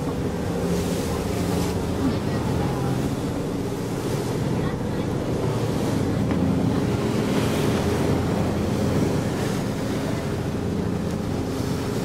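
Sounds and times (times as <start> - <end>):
boat engine humming: 0.0 - 12.0
sea water rushing along hull: 0.0 - 12.0.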